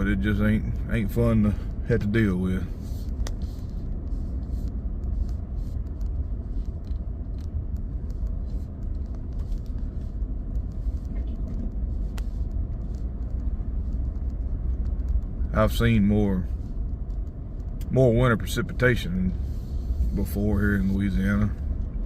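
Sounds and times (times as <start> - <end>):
engine and tyre rumble: 0.0 - 22.0
light ticks and clicks: 0.0 - 22.0.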